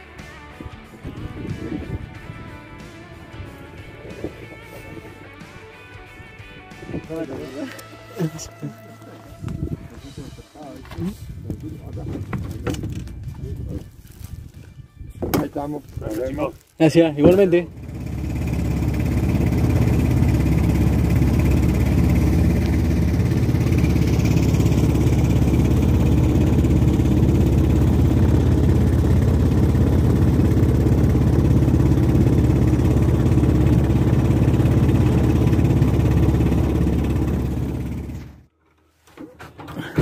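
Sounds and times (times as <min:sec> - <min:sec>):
motor running steadily: 0:00.6 - 0:13.8, 0:17.2 - 0:38.5.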